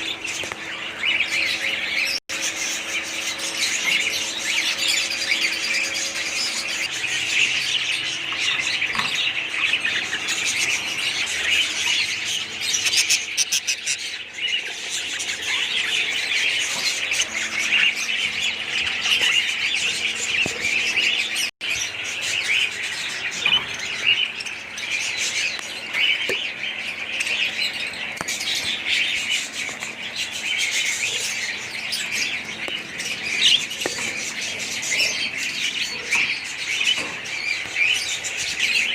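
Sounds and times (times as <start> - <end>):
cage birds chattering and squawking: 0.0 - 38.9.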